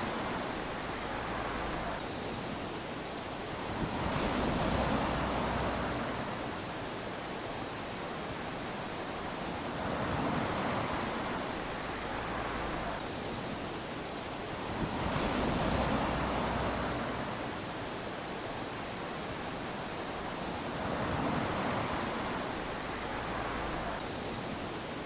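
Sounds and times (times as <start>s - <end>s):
small waves lapping on sand: 0.0s - 25.0s.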